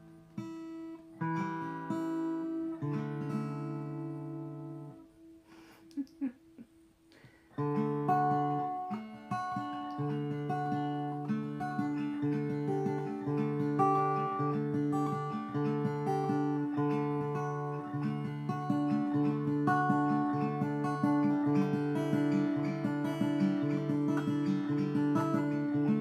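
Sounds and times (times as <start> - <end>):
guitar plucked slowly: 0.0 - 26.0.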